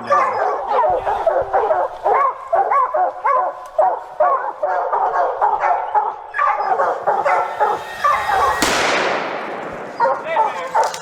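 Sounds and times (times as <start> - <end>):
dogs barking and baying: 0.0 - 8.8, 9.9 - 11.0.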